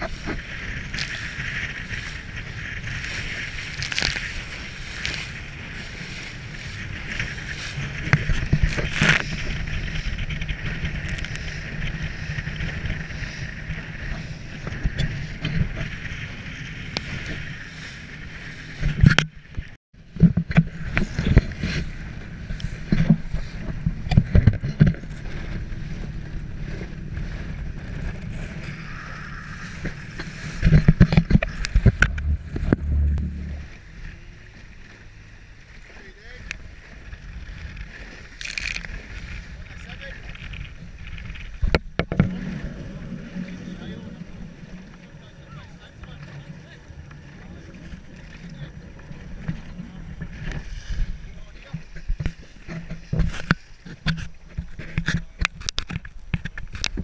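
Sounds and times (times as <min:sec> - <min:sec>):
hull slapping against waves: 0:00.0 - 0:57.0
rush of water and wind: 0:00.0 - 0:57.0.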